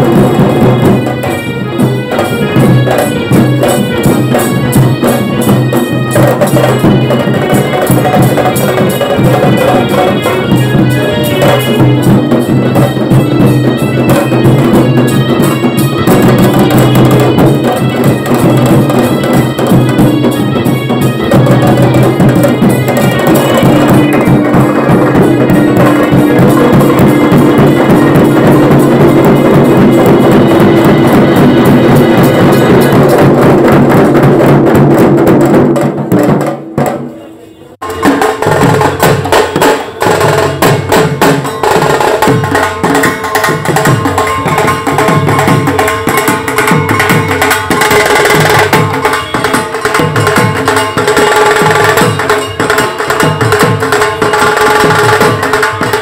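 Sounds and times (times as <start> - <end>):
band playing loud music: 0.0 - 56.0
drums: 0.0 - 56.0.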